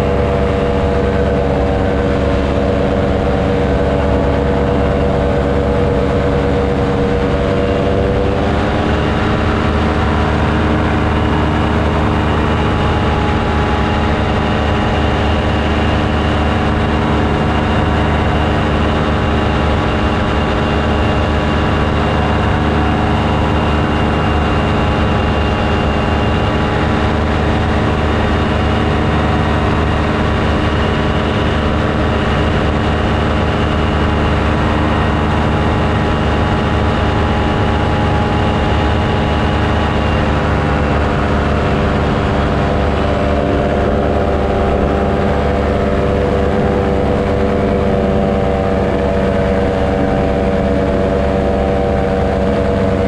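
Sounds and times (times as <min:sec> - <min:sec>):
paramotor engine running: 0:00.0 - 0:53.0.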